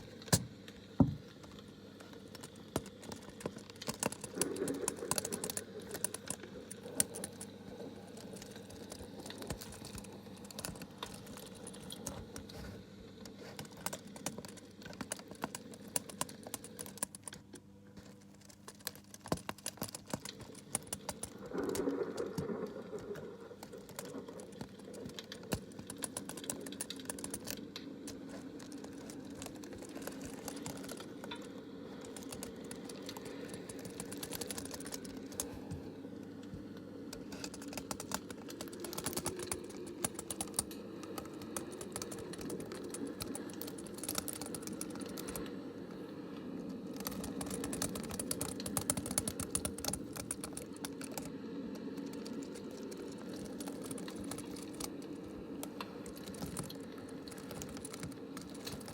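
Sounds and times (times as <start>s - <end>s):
low background hum: 0.0s - 58.9s.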